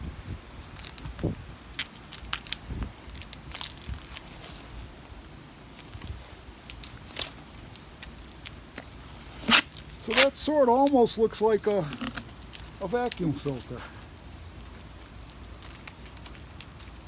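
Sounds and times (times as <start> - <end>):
stiff plastic crackling and snapping: 0.6 - 14.1, 15.2 - 17.0.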